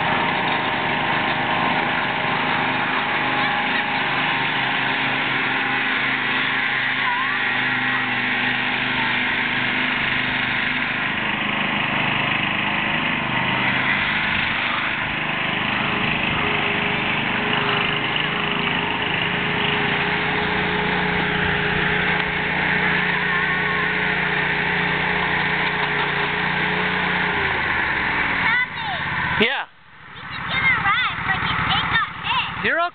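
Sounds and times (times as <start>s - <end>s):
lawn tractor engines running: 0.0s - 32.9s.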